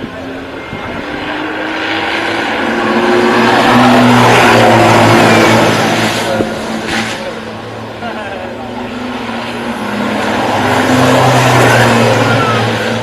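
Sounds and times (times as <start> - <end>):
racing vehicle passing: 0.0 - 13.0.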